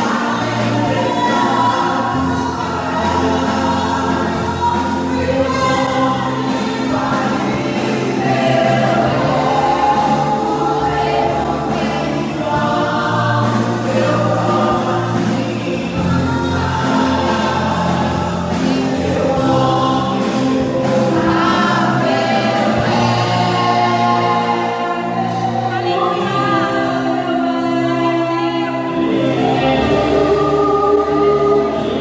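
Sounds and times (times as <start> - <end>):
group singing worship song with band: 0.0 - 32.0.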